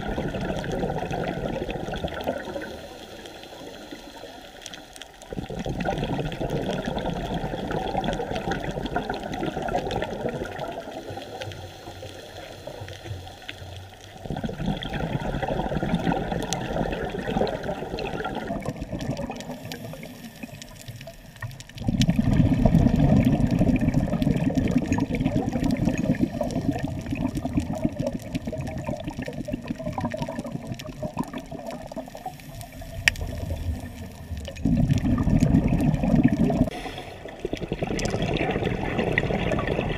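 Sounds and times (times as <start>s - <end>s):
underwater water rushing: 0.0s - 39.9s.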